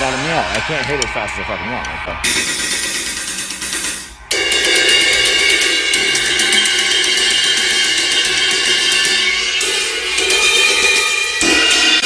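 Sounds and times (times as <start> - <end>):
cymbal hit with drumstick: 2.2 - 12.0.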